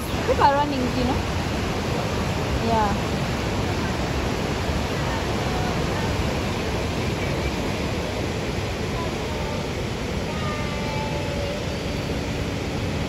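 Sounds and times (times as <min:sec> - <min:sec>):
white water rushing at waterfall: 0:00.0 - 0:13.0.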